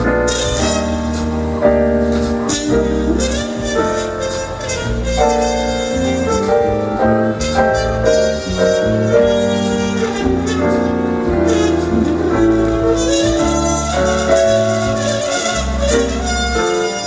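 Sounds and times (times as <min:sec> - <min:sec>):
horn melody: 0:00.0 - 0:17.0
jazz band playing swing: 0:00.0 - 0:17.0.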